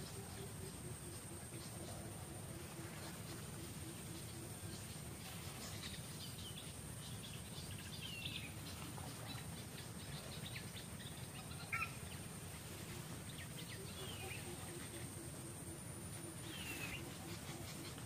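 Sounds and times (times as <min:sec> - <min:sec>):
birds chirping: 0:00.0 - 0:18.0
steady high-pitched whine: 0:00.0 - 0:18.0.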